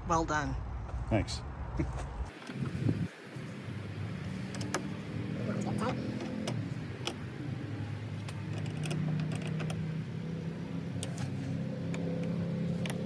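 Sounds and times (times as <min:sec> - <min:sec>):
low engine hum: 0:02.0 - 0:13.0.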